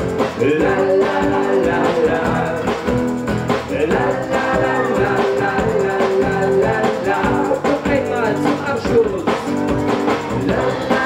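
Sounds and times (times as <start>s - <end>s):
drum strokes: 0.0s - 11.0s
live band playing children's song: 0.0s - 11.0s.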